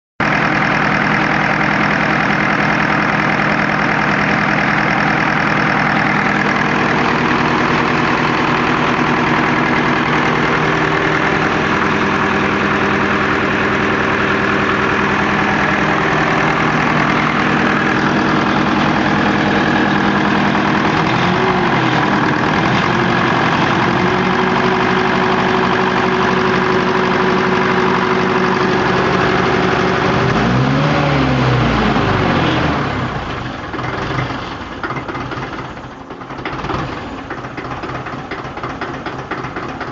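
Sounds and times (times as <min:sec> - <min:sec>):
engine running with knock: 0:00.5 - 0:39.9.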